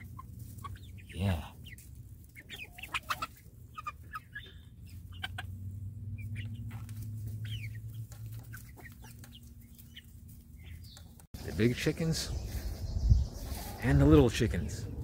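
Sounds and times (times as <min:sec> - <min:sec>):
chicks clucking and chirping: 0:00.0 - 0:15.0.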